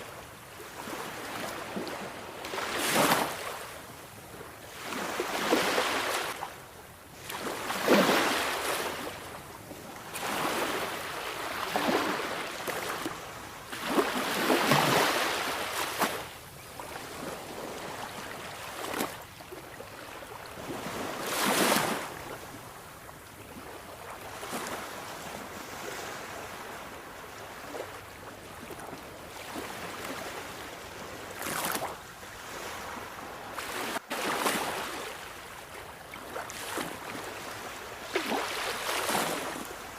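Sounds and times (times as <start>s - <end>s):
sea waves breaking on shore: 0.0s - 6.6s, 7.2s - 22.8s, 23.5s - 39.9s.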